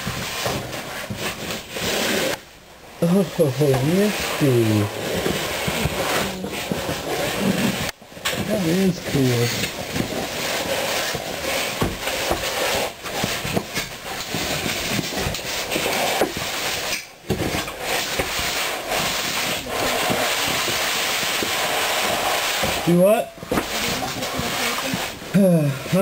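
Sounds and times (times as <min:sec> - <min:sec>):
clothing scraping on metal pipe: 0:00.0 - 0:02.4, 0:03.0 - 0:26.0.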